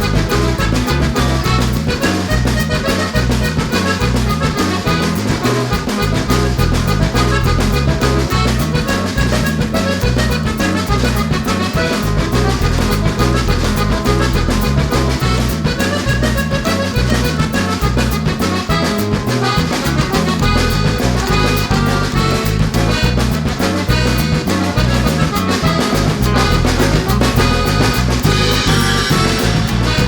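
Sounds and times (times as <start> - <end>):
music with bass and brassy lead: 0.0 - 30.0.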